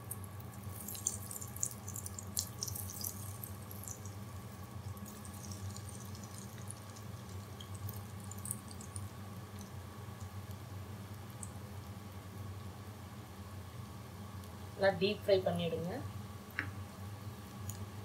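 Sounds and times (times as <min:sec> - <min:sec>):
chicken deep-frying in oil: 0:00.0 - 0:15.1
steady low hum: 0:00.0 - 0:18.0.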